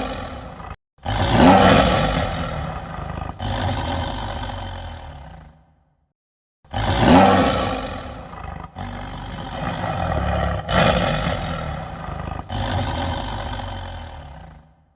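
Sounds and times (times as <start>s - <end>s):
deep rough dragon roars: 0.0s - 5.8s, 6.7s - 14.8s.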